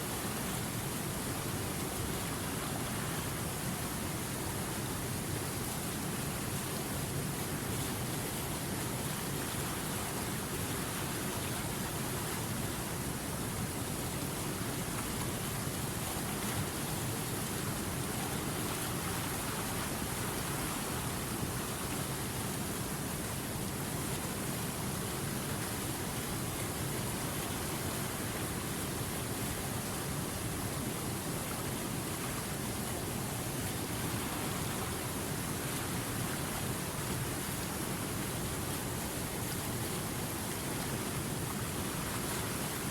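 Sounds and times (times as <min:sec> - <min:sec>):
river water rushing over rapids: 0:00.0 - 0:42.9.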